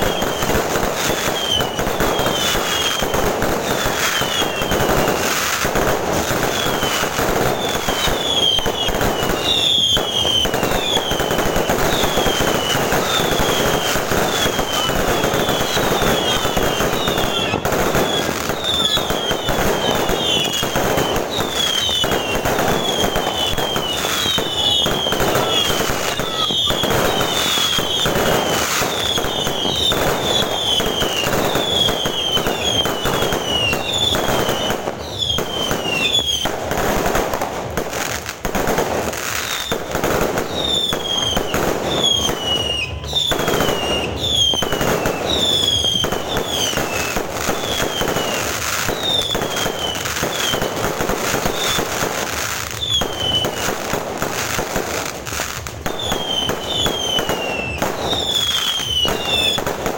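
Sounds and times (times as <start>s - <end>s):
firework whistles falling in pitch: 0.0s - 38.3s, 39.0s - 59.9s
fireworks bangs and crackling: 0.0s - 59.9s.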